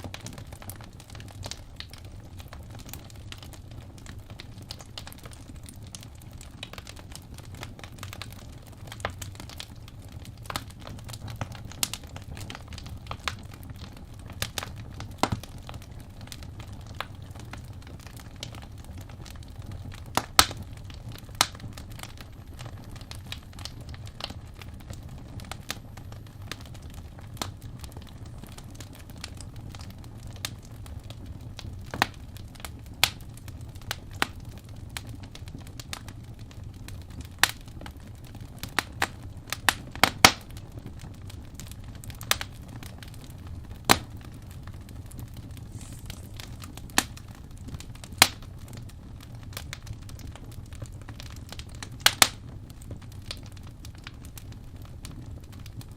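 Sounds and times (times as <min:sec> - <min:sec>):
fire rumble: 0:00.0 - 0:55.9
wood fire crackling: 0:00.0 - 0:55.9.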